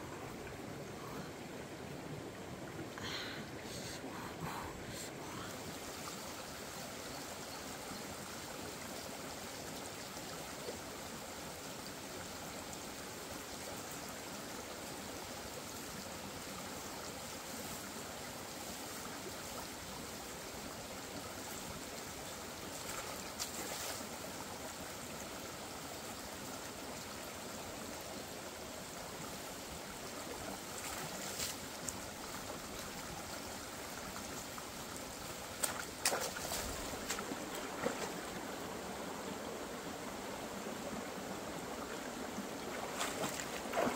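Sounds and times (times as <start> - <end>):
stream running over stones: 0.0 - 43.9.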